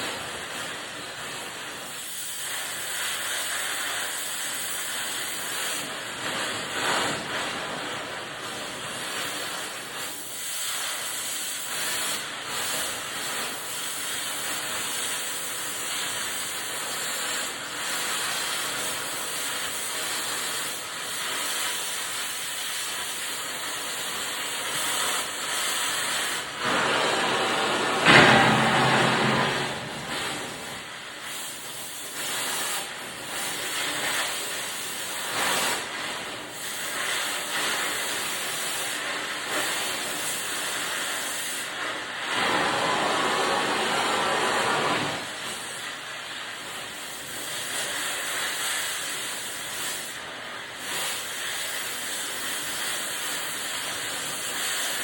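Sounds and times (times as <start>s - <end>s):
gas torch flame hissing: 0.0s - 55.0s.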